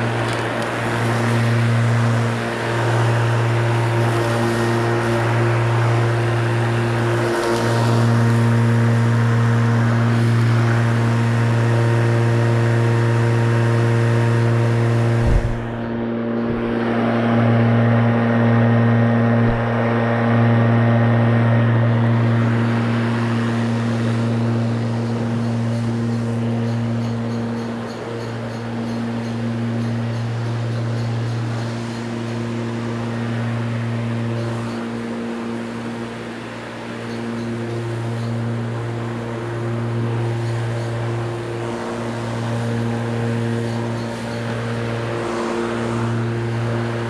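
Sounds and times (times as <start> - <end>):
lawnmower motor humming: 0.0 - 47.0.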